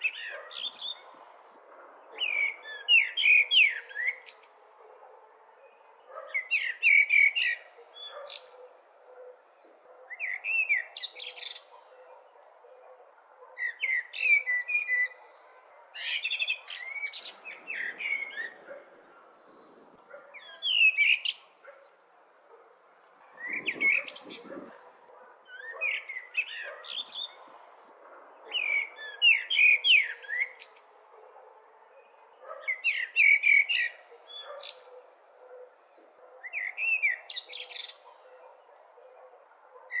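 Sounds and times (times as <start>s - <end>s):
blackbird singing: 0.0s - 1.2s, 2.1s - 4.9s, 5.6s - 21.9s, 23.4s - 27.5s, 28.4s - 38.7s.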